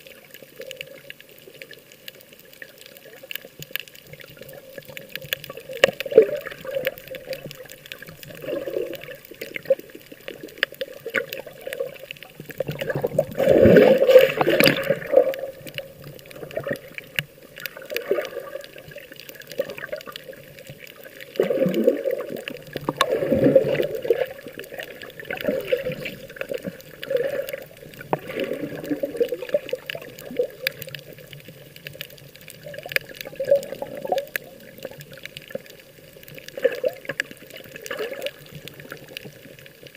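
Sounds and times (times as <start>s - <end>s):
sea water sloshing and gurgling: 0.0s - 39.9s.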